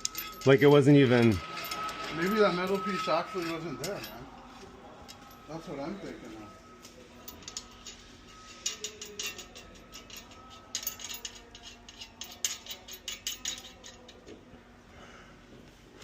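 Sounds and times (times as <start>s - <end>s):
tools clicking and clinking: 0.0s - 5.5s, 6.8s - 14.4s
faint steady hum: 0.0s - 16.0s.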